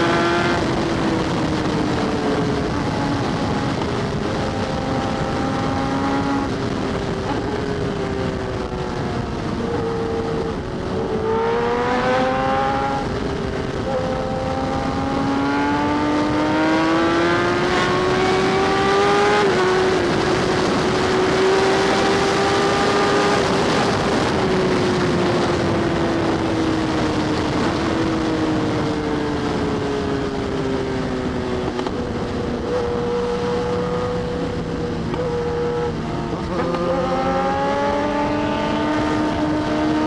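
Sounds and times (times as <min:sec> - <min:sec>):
motorcycle engine revving: 0:00.0 - 0:40.0
wind rushing over microphone: 0:00.0 - 0:40.0.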